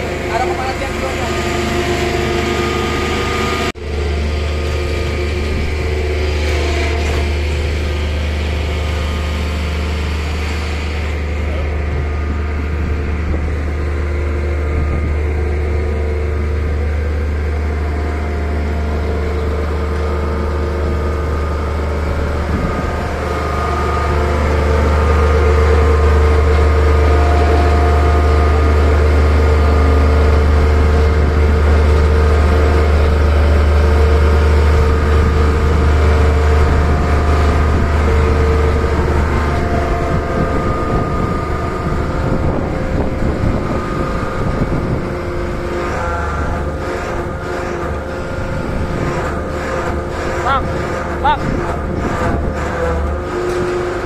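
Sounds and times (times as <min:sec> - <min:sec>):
heavy machinery engine humming: 0:00.0 - 0:54.0.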